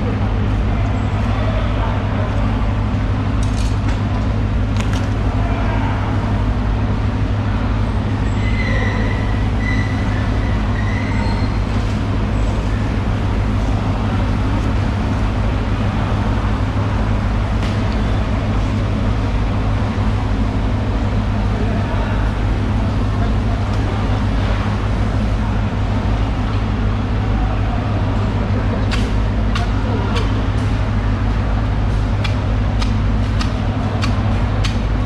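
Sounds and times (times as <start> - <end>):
loud mechanical drone: 0.0 - 35.0.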